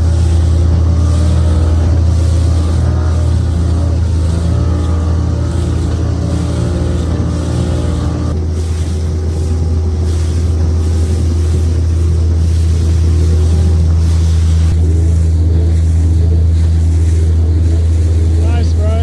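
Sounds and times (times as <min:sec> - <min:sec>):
motorboat engine running: 0:00.0 - 0:19.0
water noise: 0:00.0 - 0:19.0
wind: 0:00.0 - 0:19.0.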